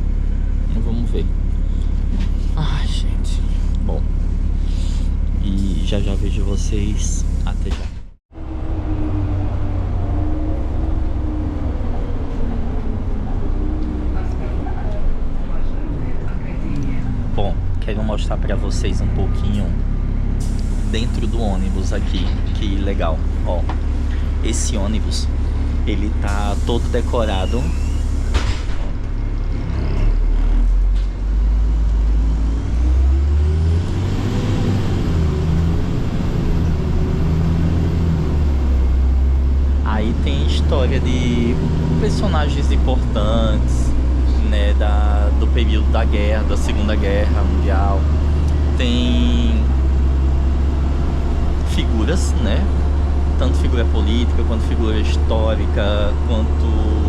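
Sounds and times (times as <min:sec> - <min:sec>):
bus engine and road rumble: 0:00.0 - 0:57.0
bus engine whine: 0:00.0 - 0:57.0.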